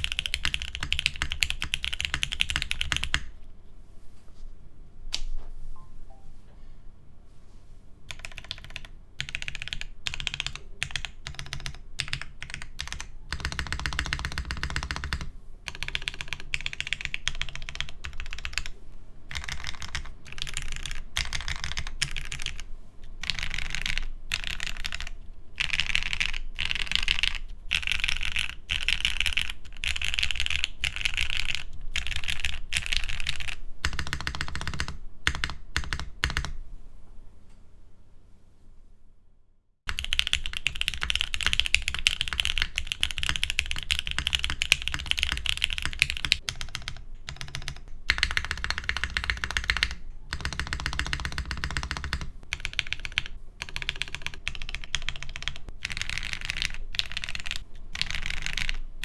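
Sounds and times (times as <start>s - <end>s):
mechanical keyboard typing: 0.0s - 3.3s, 8.1s - 36.6s, 39.9s - 59.0s.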